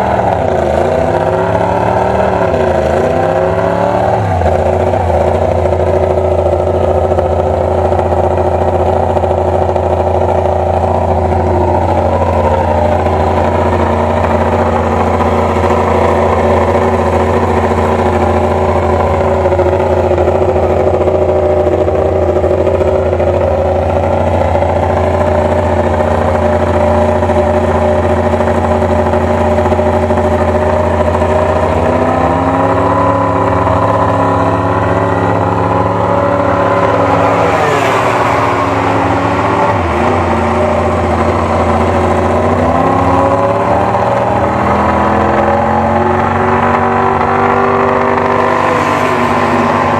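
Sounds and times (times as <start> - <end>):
race motorcycle engine running: 0.0 - 49.9.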